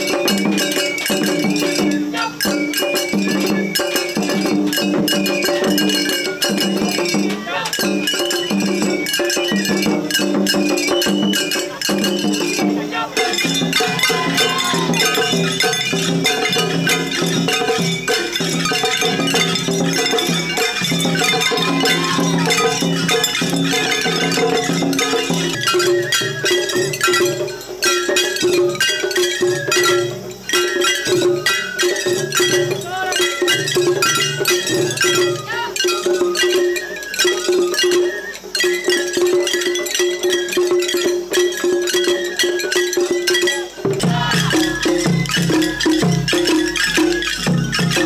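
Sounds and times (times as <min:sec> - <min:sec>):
shrill bamboo flutes: 0:00.0 - 0:48.0
small hand gongs clanging: 0:00.0 - 0:48.0
taiko drums: 0:00.0 - 0:48.0.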